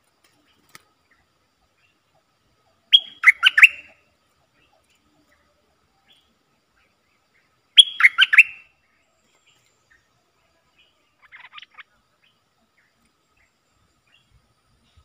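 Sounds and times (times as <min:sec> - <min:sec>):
bird chirping: 0:00.2 - 0:15.0.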